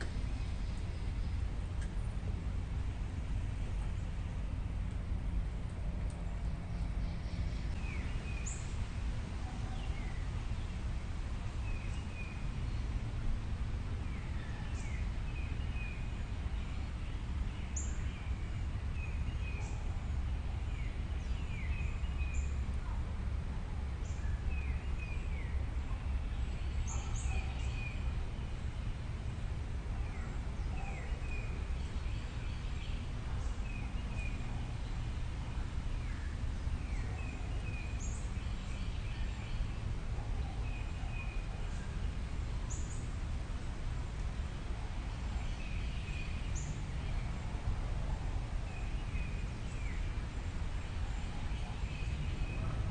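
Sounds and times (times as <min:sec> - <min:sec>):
small birds chirping: 0:00.0 - 0:43.4, 0:44.2 - 0:52.9.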